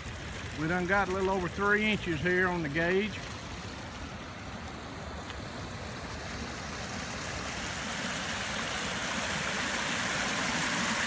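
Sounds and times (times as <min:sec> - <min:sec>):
stream rushing over a drop: 0:00.0 - 0:11.0.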